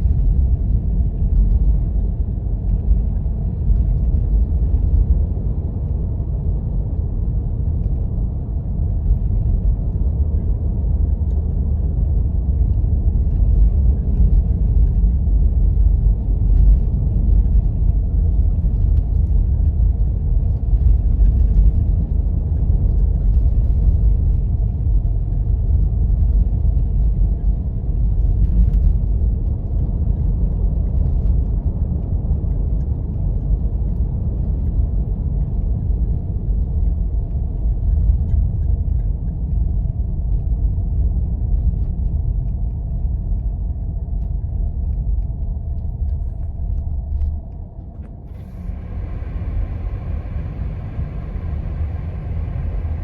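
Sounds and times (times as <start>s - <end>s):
vehicle driving on snow: 0.0s - 53.0s.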